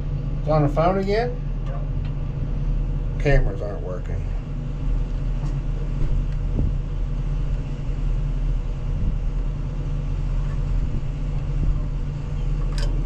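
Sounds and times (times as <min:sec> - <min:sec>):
heavy equipment engine rumbling: 0:00.0 - 0:13.0.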